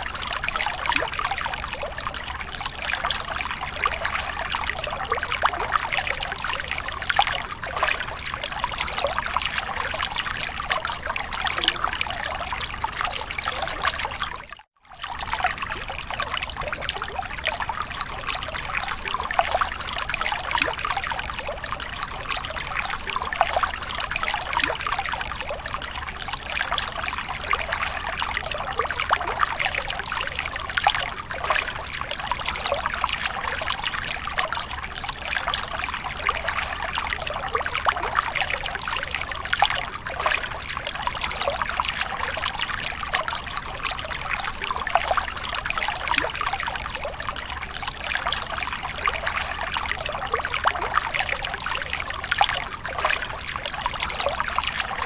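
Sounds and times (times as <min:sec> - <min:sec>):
water trickling into pool: 0:00.0 - 0:55.0.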